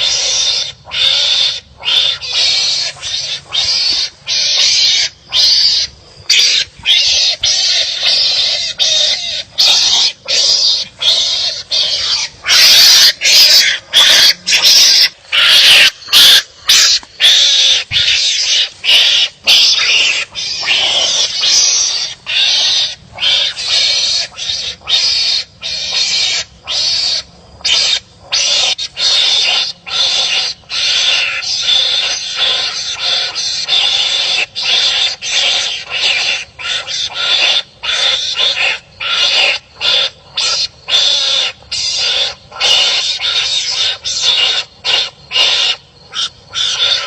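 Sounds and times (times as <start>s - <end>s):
animals rasping barking cries: 0.0s - 47.0s.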